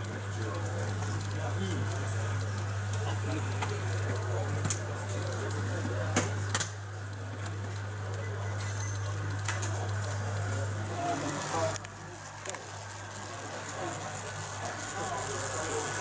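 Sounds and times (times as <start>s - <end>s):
murmur of voices: 0.0s - 16.0s
steady low hum: 0.0s - 16.0s.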